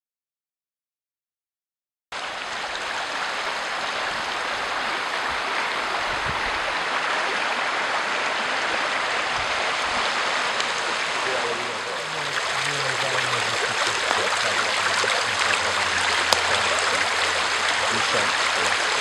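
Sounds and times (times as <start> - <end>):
flowing stream rushing: 2.2 - 19.0.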